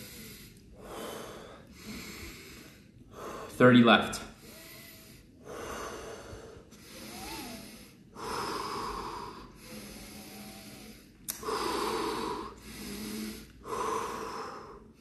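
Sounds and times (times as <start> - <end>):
man breathing deeply: 0.0 - 3.6, 4.3 - 15.0.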